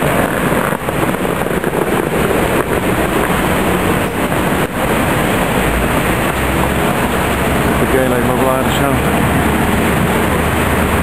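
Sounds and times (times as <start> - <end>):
engines running: 0.0 - 11.0
low rumble: 0.0 - 11.0
vehicles passing: 0.0 - 11.0.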